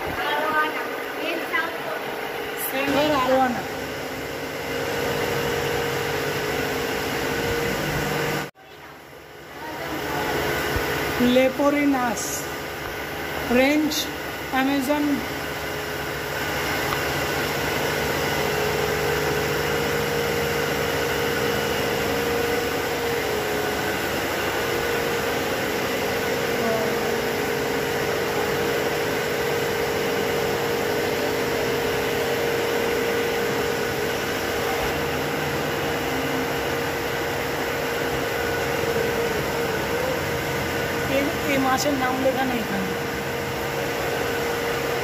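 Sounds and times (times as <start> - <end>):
machinery humming and hissing: 0.0 - 45.0.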